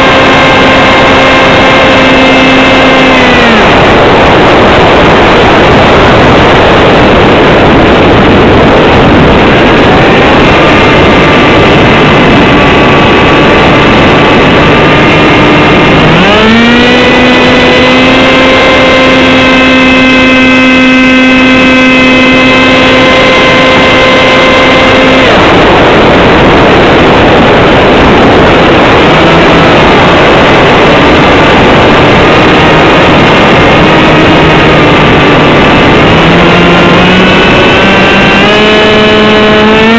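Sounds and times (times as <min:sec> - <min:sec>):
electric motor and propeller whining: 0:00.0 - 0:39.9
loud wind rush: 0:00.0 - 0:39.9.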